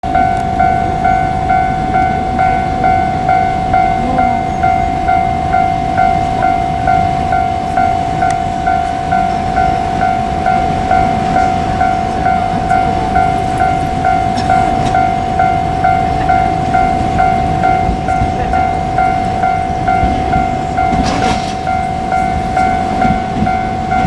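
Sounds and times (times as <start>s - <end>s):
level crossing warning bell ringing: 0.0s - 24.0s.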